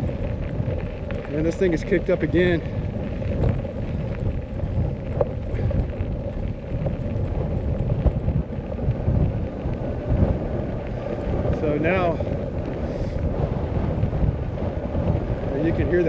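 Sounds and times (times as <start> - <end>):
gusty wind on microphone: 0.0 - 16.0.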